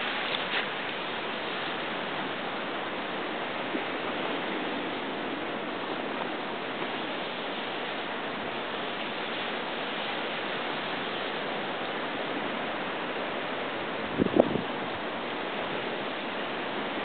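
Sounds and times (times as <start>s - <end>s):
ocean surf on rocky shore: 0.0s - 17.0s.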